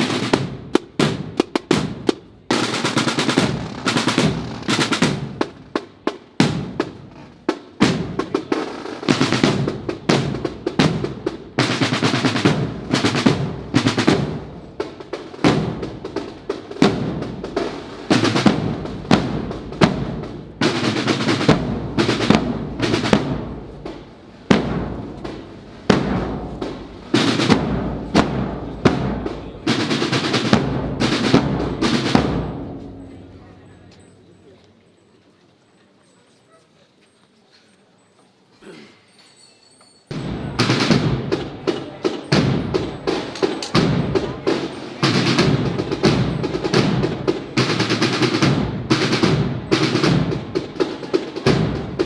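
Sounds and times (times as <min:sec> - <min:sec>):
snare drums: 0:00.0 - 0:33.0, 0:40.1 - 0:52.0.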